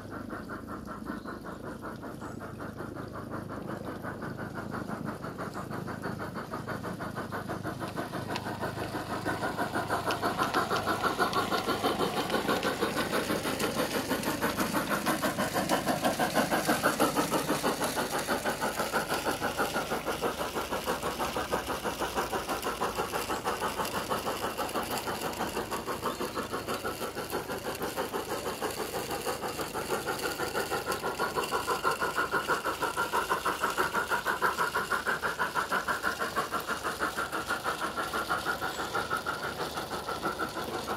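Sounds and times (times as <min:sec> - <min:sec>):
steam locomotive chuffs from speaker: 0:00.0 - 0:40.9.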